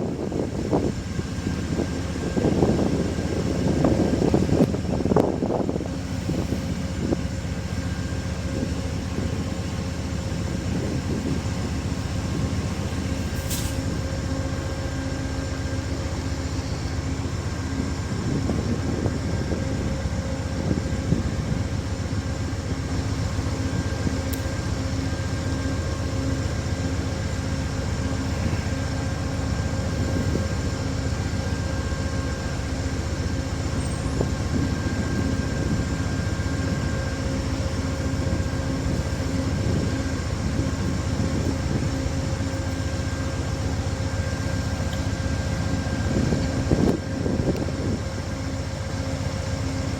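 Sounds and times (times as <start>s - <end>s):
constant hum: 0.0s - 49.9s
diesel locomotive engine drone: 0.0s - 49.9s.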